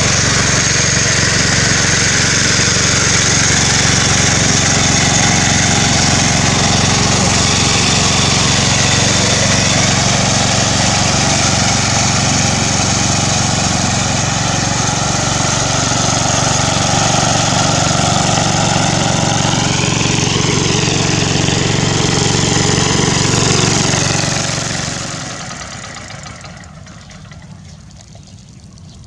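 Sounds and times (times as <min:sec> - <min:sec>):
hand tractor engine running: 0:00.0 - 0:29.0.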